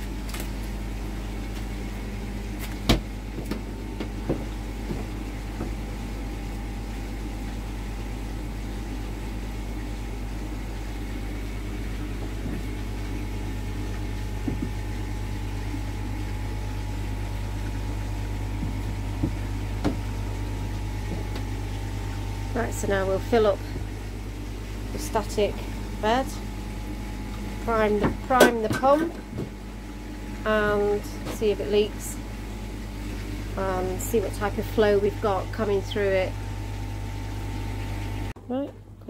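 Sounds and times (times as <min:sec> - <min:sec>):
low electric machinery hum: 0:00.0 - 0:39.0.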